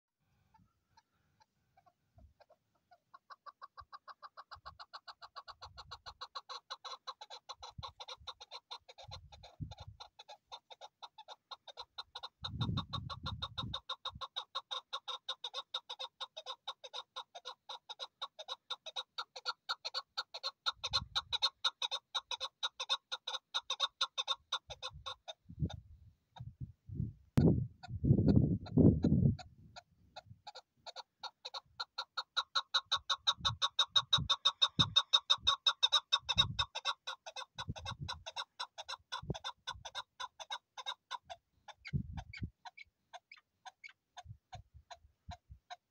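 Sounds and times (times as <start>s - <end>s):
partridge calling: 0.5s - 25.8s, 28.6s - 45.8s.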